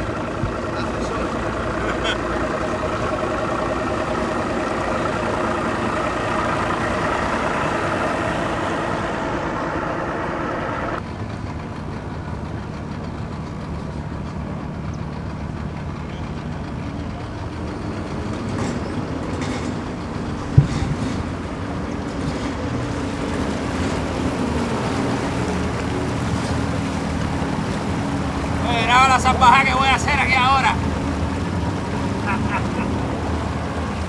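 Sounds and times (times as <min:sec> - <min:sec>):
engine droning: 0:00.0 - 0:34.0.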